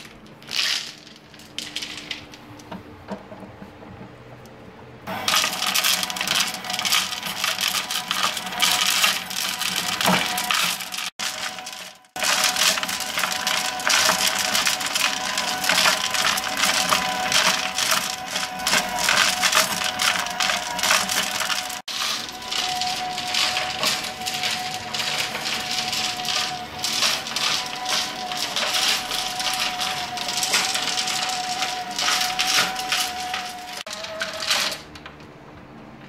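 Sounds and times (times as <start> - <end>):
stones rattling in turning drum: 0.0 - 4.3, 5.1 - 35.2.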